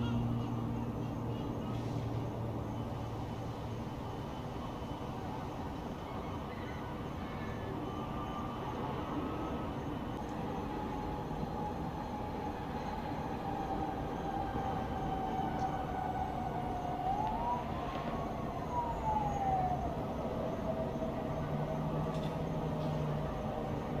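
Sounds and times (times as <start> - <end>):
distant emergency siren: 0.0 - 24.0
town traffic rumble: 0.0 - 24.0.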